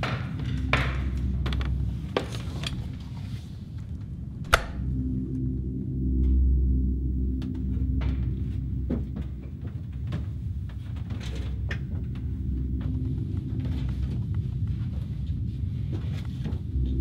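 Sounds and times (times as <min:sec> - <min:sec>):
footsteps on attic floor: 0:00.0 - 0:05.4, 0:07.3 - 0:17.0
low steady drone: 0:00.0 - 0:17.0.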